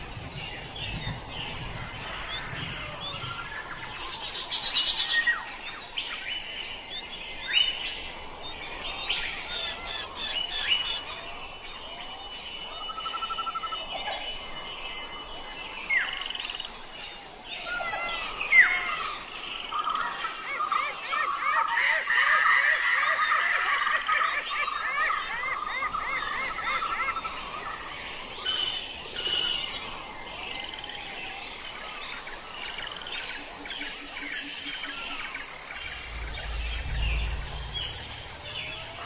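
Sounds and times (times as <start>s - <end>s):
forest birds calling: 0.0s - 39.0s.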